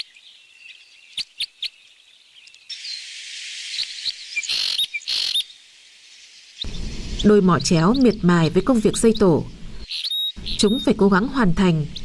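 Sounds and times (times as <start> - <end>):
background hiss: 0.0 - 10.7
birds chirping: 0.0 - 12.0.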